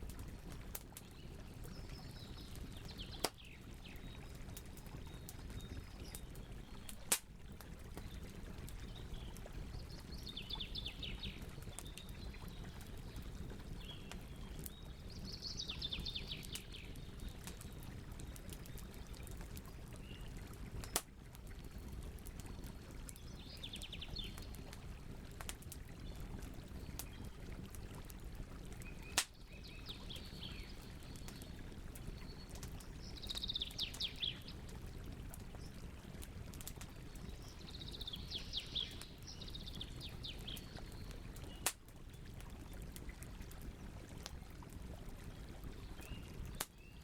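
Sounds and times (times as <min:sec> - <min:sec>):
wood fire crackling: 0:00.0 - 0:10.1, 0:15.9 - 0:29.4, 0:30.5 - 0:38.2, 0:38.8 - 0:46.7.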